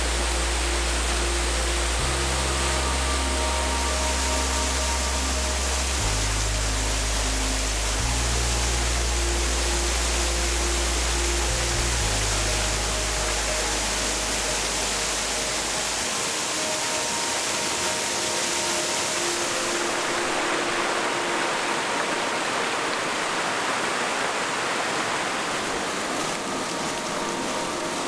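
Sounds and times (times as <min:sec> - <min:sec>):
stream flowing over rock: 0:00.0 - 0:28.0.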